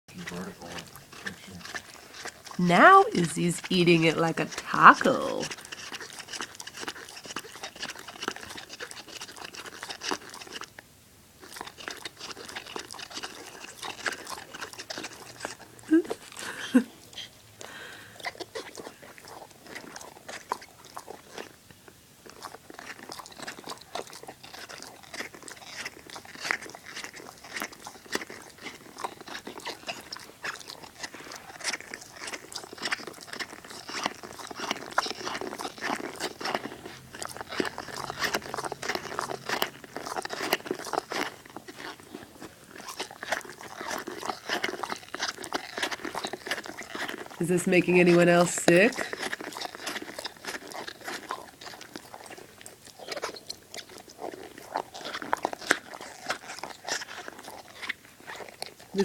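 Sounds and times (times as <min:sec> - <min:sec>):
dog chewing toy ball: 0:00.1 - 0:10.8, 0:11.4 - 0:59.0.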